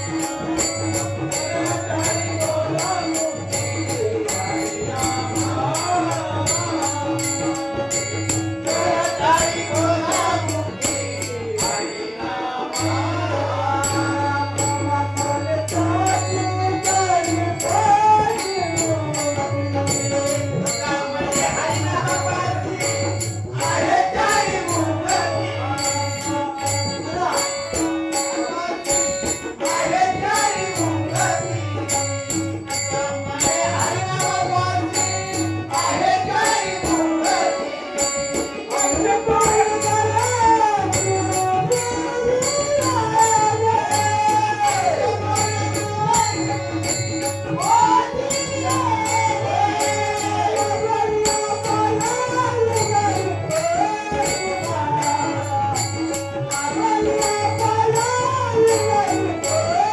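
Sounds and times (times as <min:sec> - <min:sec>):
hand cymbals clinking: 0:00.0 - 0:59.9
man singing: 0:00.0 - 0:59.9
tabla strokes: 0:00.0 - 0:59.9.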